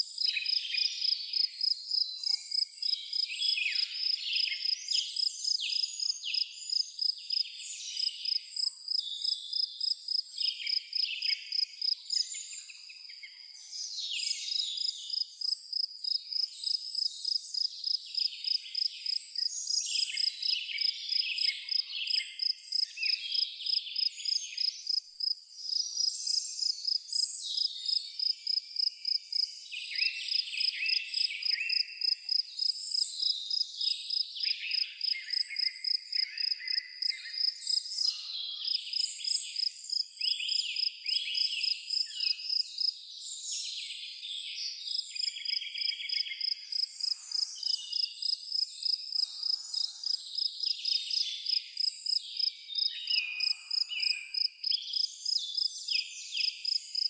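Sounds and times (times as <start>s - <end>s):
cricket chirping: 0.0s - 7.4s, 8.2s - 13.2s, 14.8s - 29.5s, 30.2s - 43.0s, 44.9s - 55.7s, 56.4s - 57.0s
birds singing and twittering: 0.0s - 57.0s.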